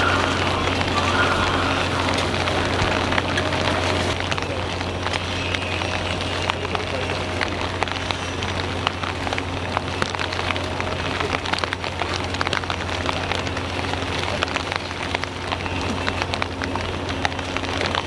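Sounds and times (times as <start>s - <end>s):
heavy rain falling: 0.0s - 18.0s
raindrops ticking close by: 0.0s - 18.0s
steady low hum: 0.0s - 18.0s.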